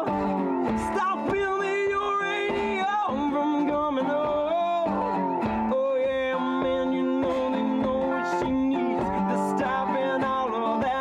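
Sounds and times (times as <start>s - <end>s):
guitar plucking: 0.0s - 11.0s
man singing: 0.0s - 11.0s.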